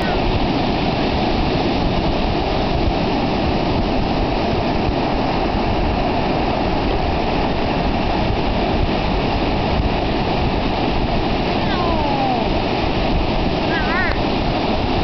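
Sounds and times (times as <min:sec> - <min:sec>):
ocean surf breaking on shore: 0:00.0 - 0:15.0.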